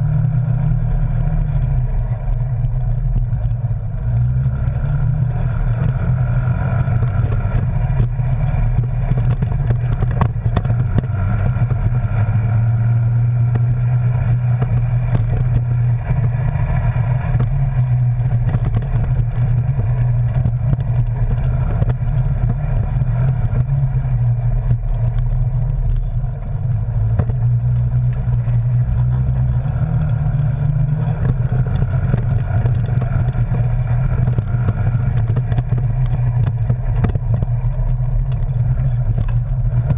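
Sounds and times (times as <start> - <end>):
vehicle engine running: 0.0 - 39.9
vehicle body knocking and rattling: 0.1 - 39.9.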